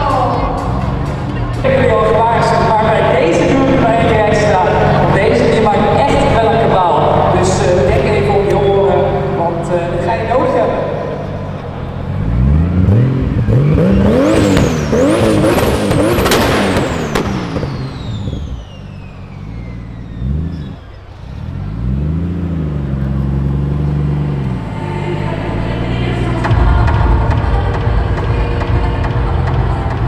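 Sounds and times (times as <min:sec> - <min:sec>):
sports car engine revving: 0:00.0 - 0:30.0.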